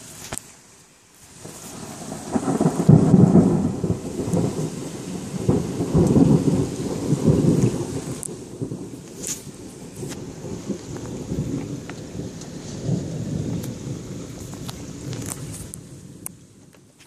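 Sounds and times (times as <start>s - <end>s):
rain hissing: 0.0s - 17.0s
thunder rumbling: 1.4s - 16.9s.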